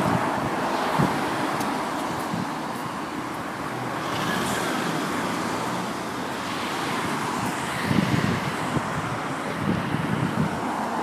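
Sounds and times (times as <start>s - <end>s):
car traffic: 0.0s - 11.0s
wind and road noise: 0.0s - 11.0s.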